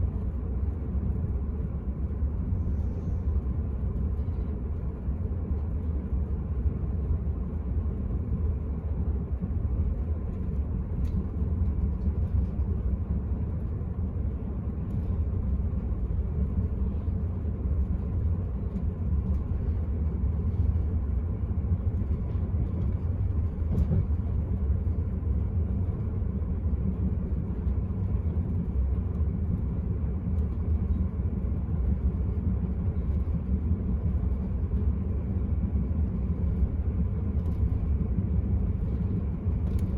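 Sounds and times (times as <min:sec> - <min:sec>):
train rumbling inside carriage: 0:00.0 - 0:39.9.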